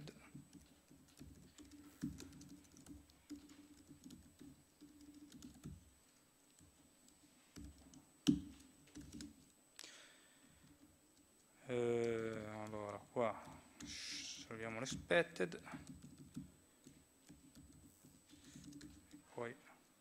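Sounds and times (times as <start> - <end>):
typing on laptop keyboard: 0.0 - 9.6, 10.3 - 19.3.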